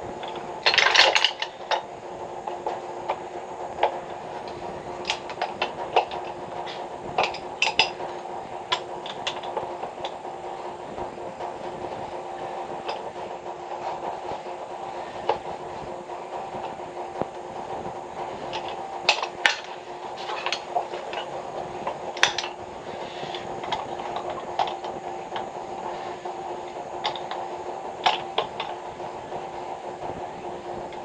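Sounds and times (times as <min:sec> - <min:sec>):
mechanical hum: 0:00.0 - 0:31.0.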